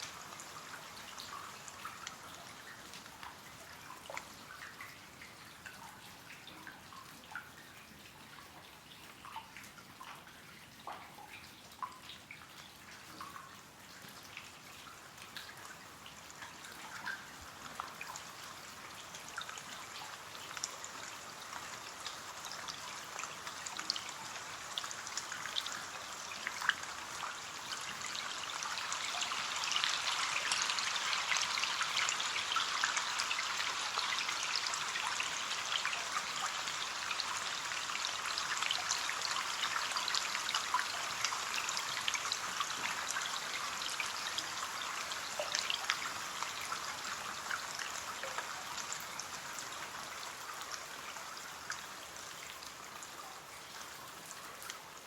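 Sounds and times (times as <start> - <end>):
rain pattering on a window: 0.0 - 55.0.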